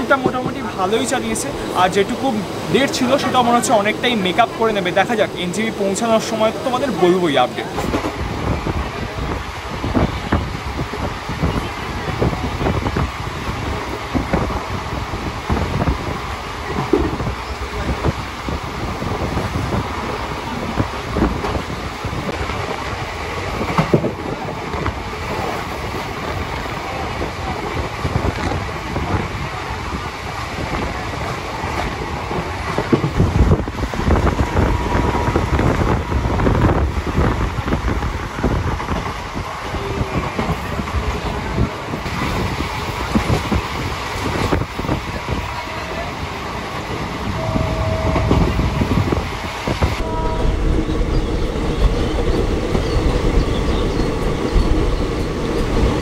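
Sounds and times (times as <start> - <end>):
train rumbling on track: 0.0 - 56.0
wind noise on microphone: 7.8 - 56.0.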